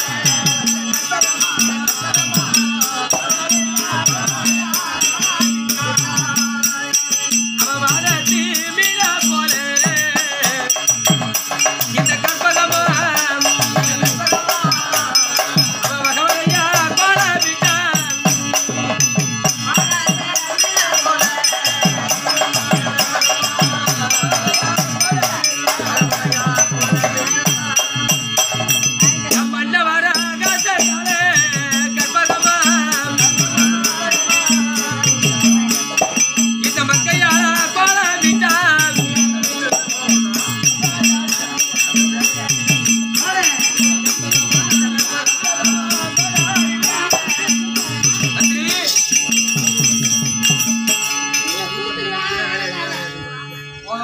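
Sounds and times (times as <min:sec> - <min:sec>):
steady drum beat: 0:00.0 - 0:51.4
harmonium melody: 0:00.0 - 0:54.0.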